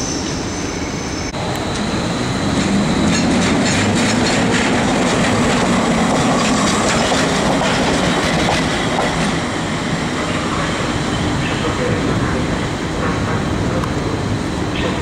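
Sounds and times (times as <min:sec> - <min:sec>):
electric locomotive rumbling past: 0:00.0 - 0:15.0.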